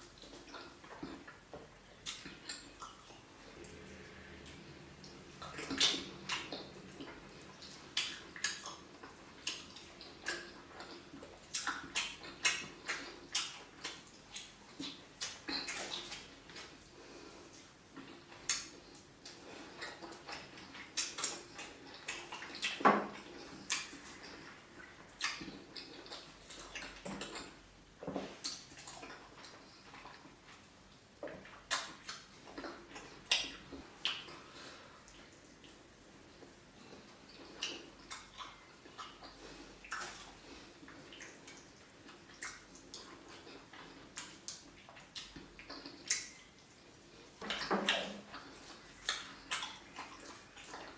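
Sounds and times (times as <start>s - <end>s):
wet chewing and lip smacks: 0.0s - 50.9s.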